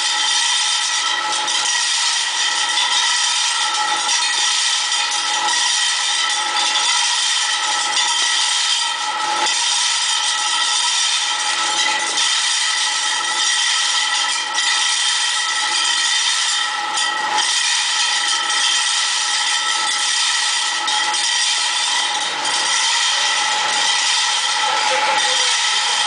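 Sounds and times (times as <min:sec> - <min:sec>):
washer rotor whine: 0:00.0 - 0:26.0.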